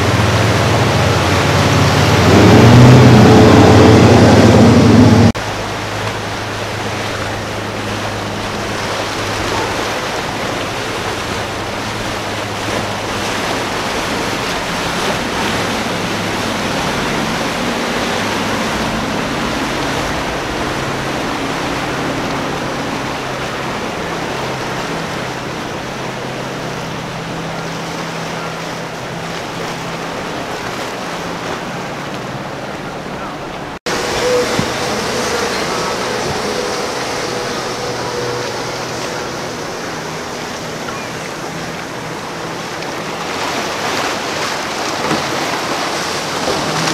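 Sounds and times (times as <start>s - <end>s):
outboard boat engines droning: 0.0s - 46.9s
rushing wake and surf: 0.0s - 46.9s.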